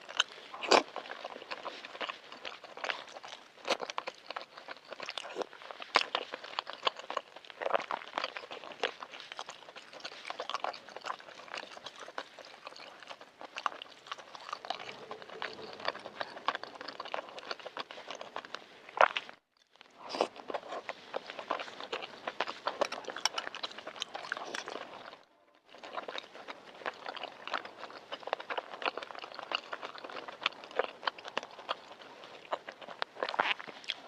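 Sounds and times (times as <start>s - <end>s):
wet chewing smacks and crunches: 0.0s - 34.0s.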